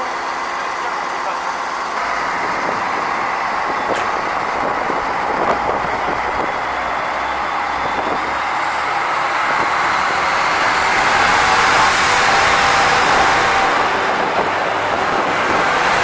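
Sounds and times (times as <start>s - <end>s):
train rumbling along tracks: 0.0s - 16.0s.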